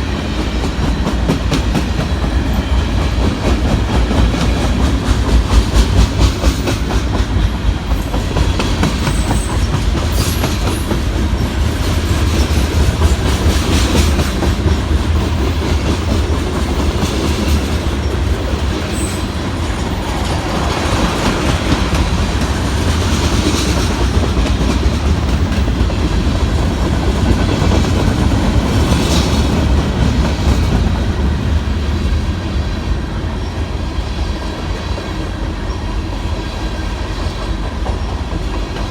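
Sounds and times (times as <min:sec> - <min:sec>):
train wheels clacking over rail joints: 0:00.0 - 0:31.4.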